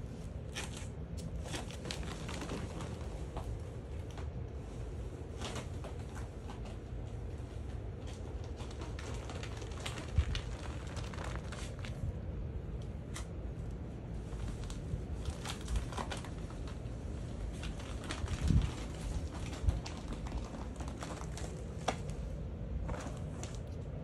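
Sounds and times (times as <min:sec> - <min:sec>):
play tube crinkling and rustling: 0:00.0 - 0:24.0.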